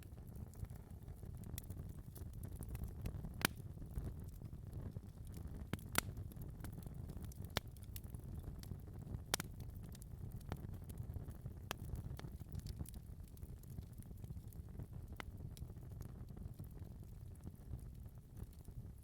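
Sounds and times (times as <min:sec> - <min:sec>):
fire crackling in a fireplace: 0:00.0 - 0:19.0.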